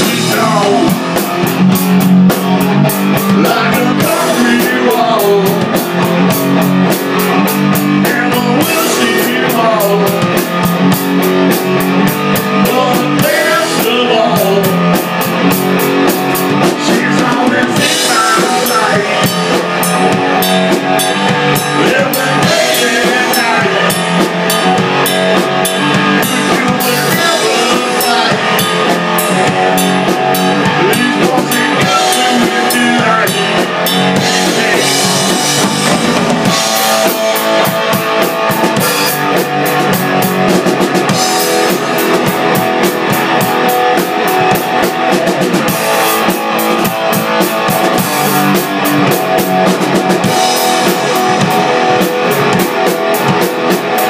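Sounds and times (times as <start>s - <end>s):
drum kit with fast cymbal beat: 0.0s - 54.0s
guitar playing: 0.0s - 54.0s.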